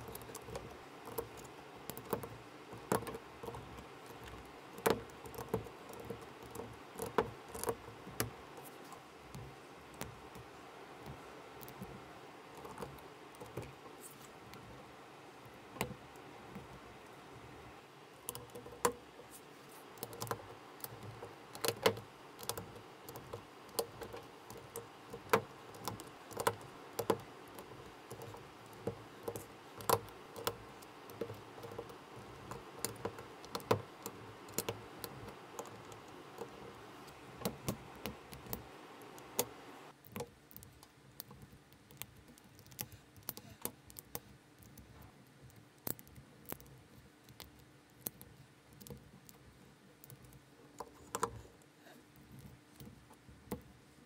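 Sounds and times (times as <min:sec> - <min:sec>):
low background hiss: 0:00.0 - 0:54.0.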